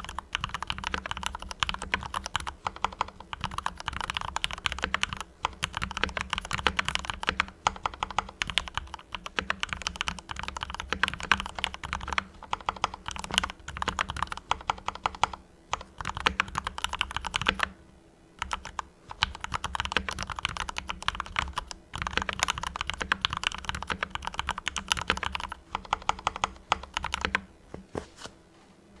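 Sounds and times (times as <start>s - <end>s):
fast typing on mechanical keyboard: 0.0s - 17.8s, 18.4s - 27.5s.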